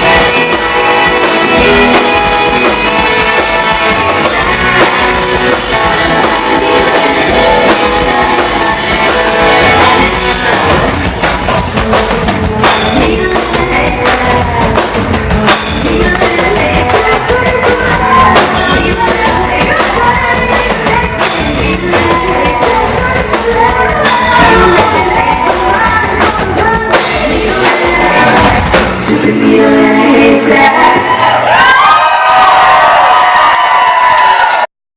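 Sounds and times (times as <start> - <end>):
person singing: 0.0 - 31.5
electric guitars: 0.0 - 31.6
drum kit: 0.0 - 34.7.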